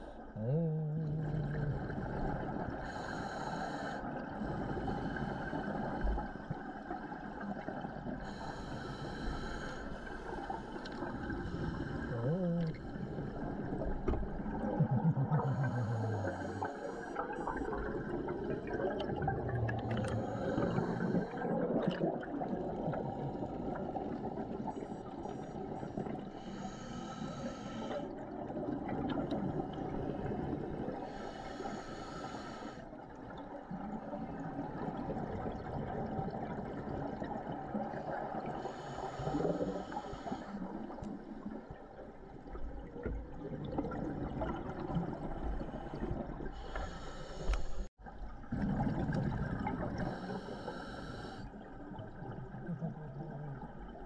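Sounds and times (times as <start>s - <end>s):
watery rumble: 0.0s - 31.9s, 32.8s - 54.0s
exhaled bubbles hissing underwater: 0.0s - 54.0s.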